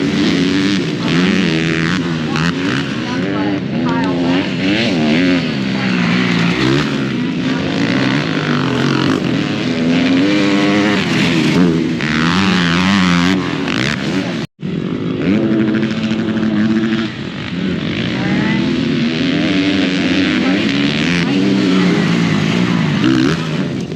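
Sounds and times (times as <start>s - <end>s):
dirt bike engines revving: 0.0s - 23.9s.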